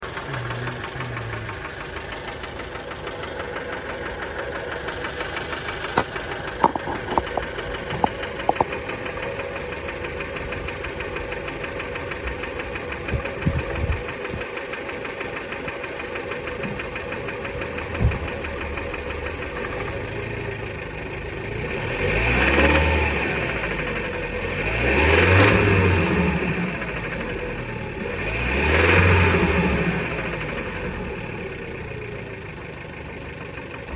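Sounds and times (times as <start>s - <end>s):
engine revving: 0.0s - 32.1s
engine idling with knocking rattle: 0.0s - 33.9s.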